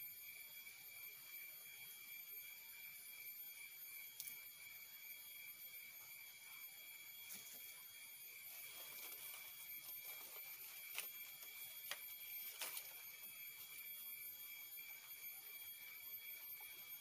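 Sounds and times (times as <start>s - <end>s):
high-pitched insect chorus: 0.1s - 17.0s.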